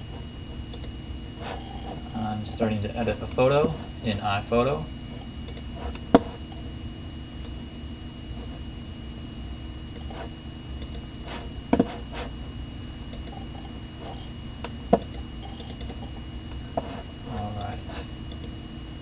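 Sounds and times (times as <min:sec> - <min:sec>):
computer hum: 0:00.0 - 0:19.0
faint high whine: 0:00.0 - 0:19.0.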